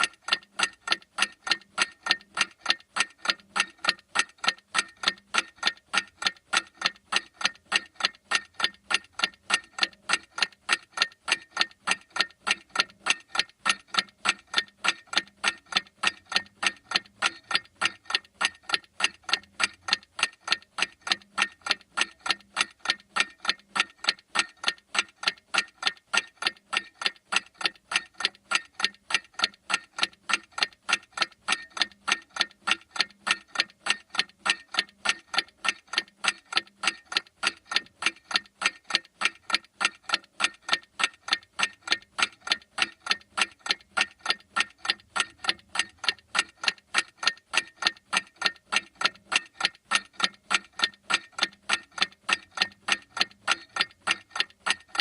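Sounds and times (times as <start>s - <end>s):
mechanical clock ticking: 0.0s - 55.0s.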